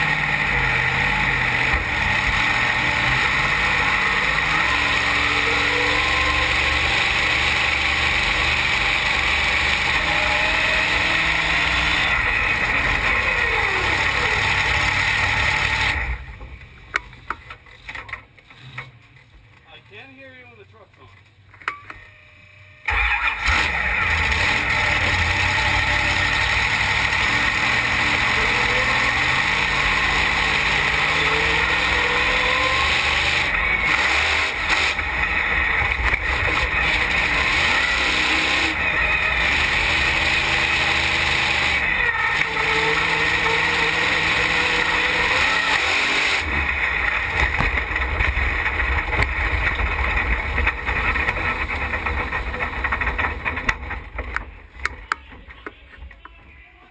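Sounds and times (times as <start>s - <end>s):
car engine revving: 0.0s - 16.5s, 22.8s - 54.8s.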